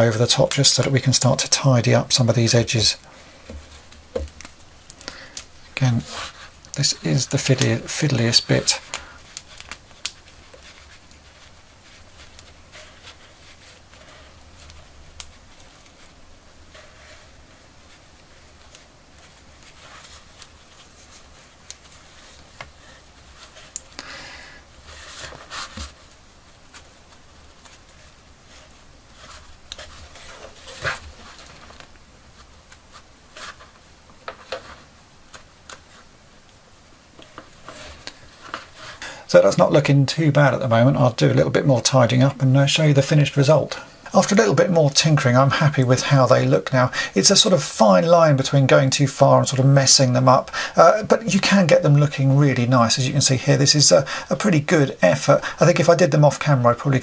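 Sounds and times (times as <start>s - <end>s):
soft rubbing and rustling of hair: 0.0s - 24.0s, 24.6s - 57.0s
low steady hum: 0.0s - 57.0s.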